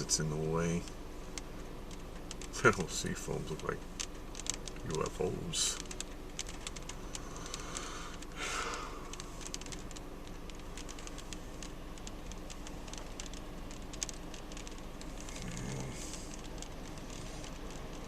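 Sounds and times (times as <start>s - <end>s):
raindrops on car roof: 0.0s - 18.0s.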